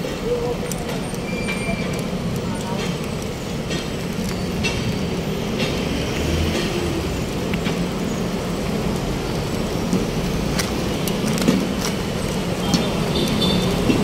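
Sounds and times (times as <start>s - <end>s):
city road traffic: 0.0s - 14.0s.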